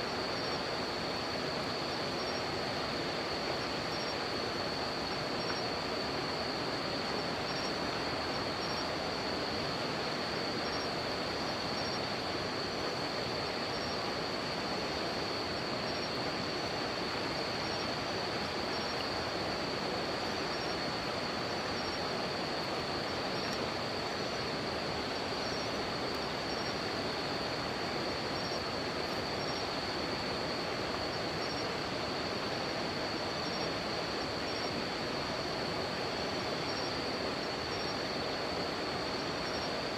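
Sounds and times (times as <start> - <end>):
high-pitched insect trill: 0.0 - 39.9
insect chirping: 0.0 - 39.9
river flowing: 0.1 - 39.9.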